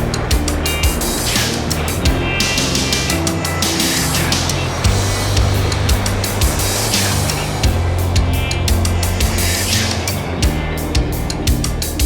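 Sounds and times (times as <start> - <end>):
background music: 0.0 - 12.0
bass line: 0.0 - 12.0
drum hits: 0.0 - 12.0.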